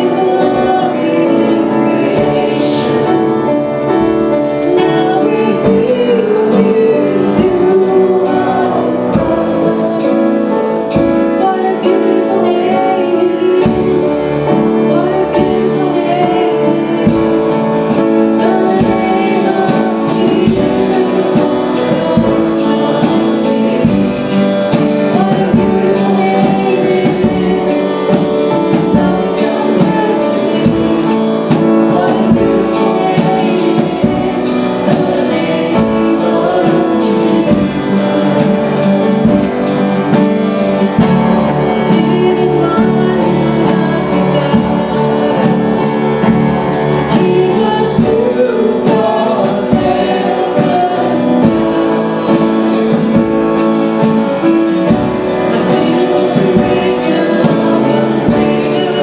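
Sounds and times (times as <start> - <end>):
worship band playing: 0.0 - 59.0.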